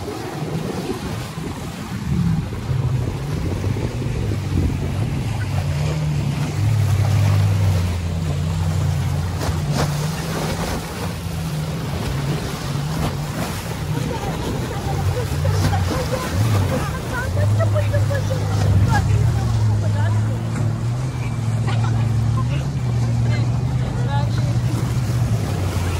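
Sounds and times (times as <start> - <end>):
wind buffeting microphone: 0.0 - 20.9
jet ski engine running: 0.0 - 25.9
waves washing against a wall: 0.0 - 25.9.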